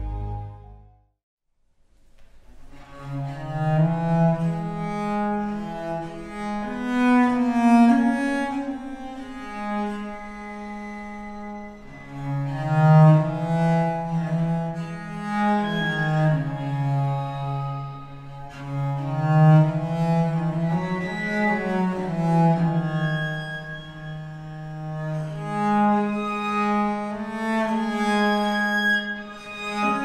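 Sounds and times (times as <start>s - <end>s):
violin bowed notes: 0.0s - 1.0s, 2.7s - 30.0s
viola da gamba bowed notes: 3.0s - 30.0s.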